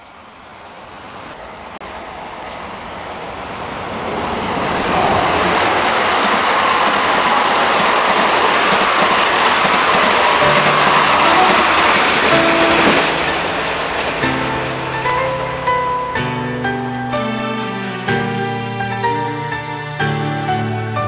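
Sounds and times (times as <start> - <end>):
model train rumbling on track: 0.0 - 20.6.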